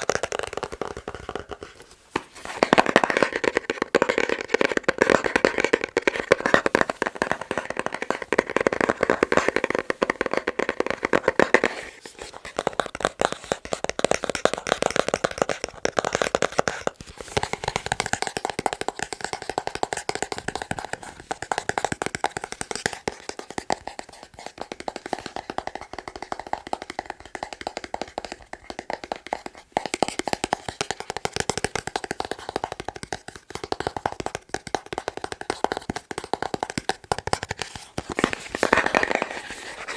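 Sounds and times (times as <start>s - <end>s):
fingertips tapping on boxes: 0.0s - 39.9s.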